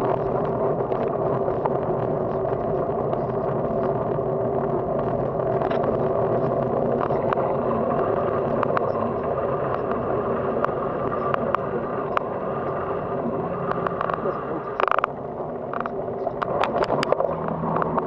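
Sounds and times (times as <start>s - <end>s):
wind and tyre noise: 0.0s - 18.0s.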